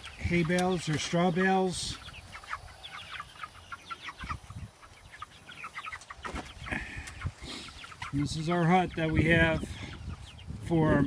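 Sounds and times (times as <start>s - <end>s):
chickens peeping and clucking: 0.0s - 11.0s.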